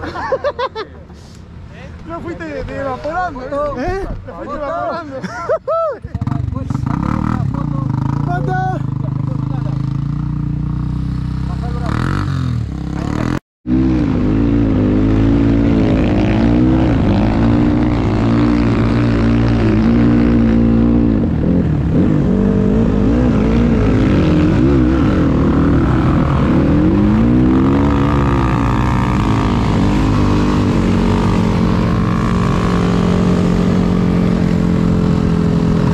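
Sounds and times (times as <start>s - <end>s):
dirt bike engine revving: 6.2s - 35.9s.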